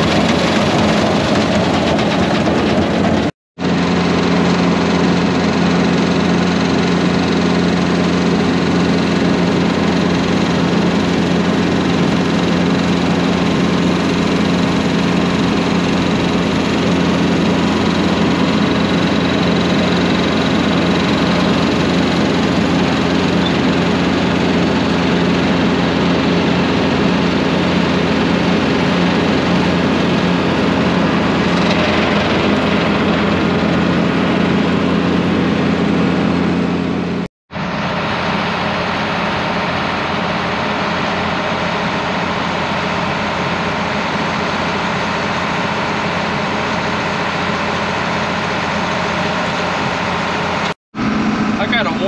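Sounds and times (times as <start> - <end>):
diesel tractor engine drone: 0.0 - 52.0.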